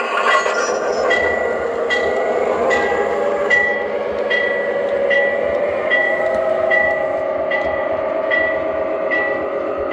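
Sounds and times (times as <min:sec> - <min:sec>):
locomotive bell ringing: 0:00.0 - 0:09.9
diesel engine drone: 0:01.0 - 0:09.9.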